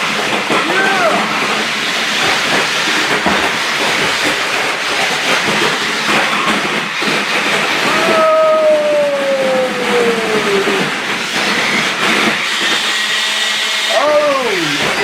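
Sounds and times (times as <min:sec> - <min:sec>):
toy car electric motor hiss: 0:00.0 - 0:15.0.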